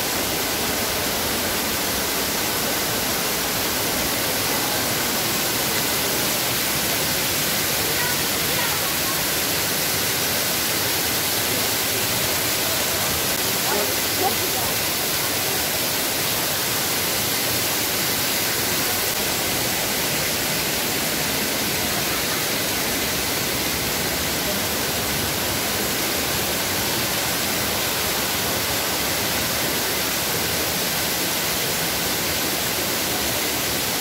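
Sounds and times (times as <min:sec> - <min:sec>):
white water rushing: 0:00.0 - 0:34.0.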